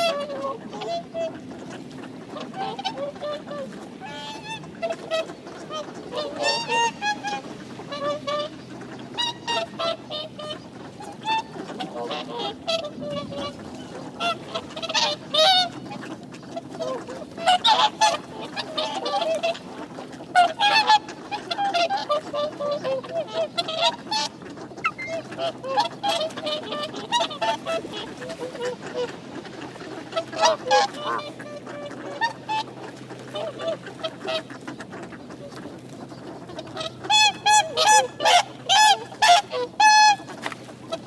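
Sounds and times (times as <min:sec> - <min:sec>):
swans honking: 0:00.0 - 0:41.0.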